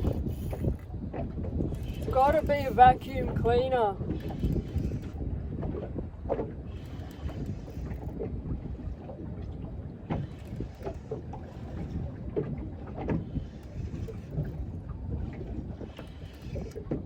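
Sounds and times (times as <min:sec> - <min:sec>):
water lapping against boat hull: 0:00.0 - 0:17.0
wind buffeting microphone: 0:00.0 - 0:17.0.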